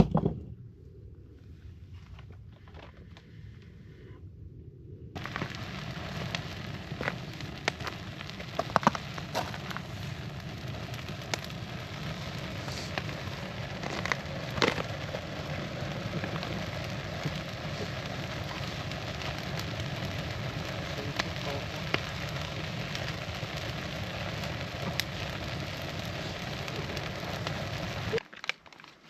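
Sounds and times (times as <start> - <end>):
campfire crackling and popping: 5.2 - 29.0.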